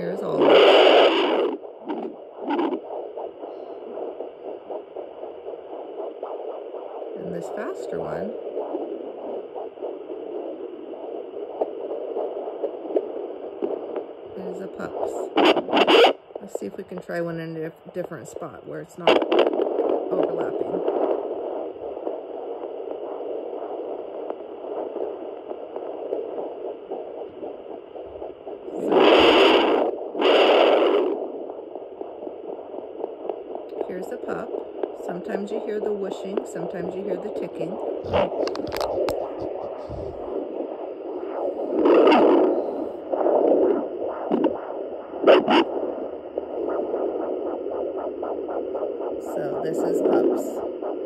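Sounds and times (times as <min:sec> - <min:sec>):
pulsing heartbeat: 0:00.0 - 0:51.0.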